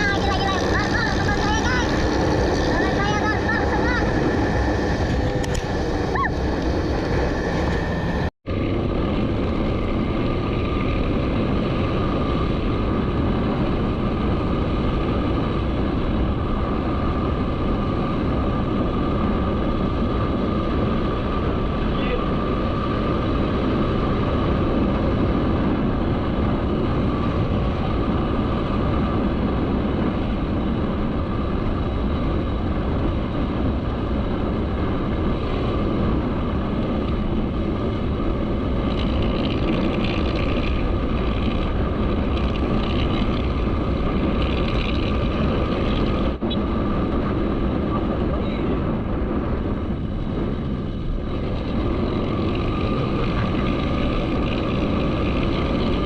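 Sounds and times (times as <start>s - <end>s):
motorcycle engine: 0.0s - 56.0s
wind noise on microphone: 0.0s - 56.0s.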